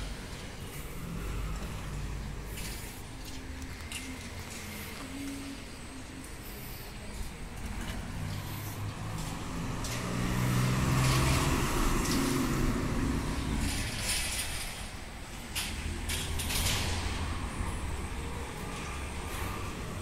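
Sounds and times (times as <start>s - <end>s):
vehicle passing on road: 0.0s - 5.5s, 6.4s - 20.0s.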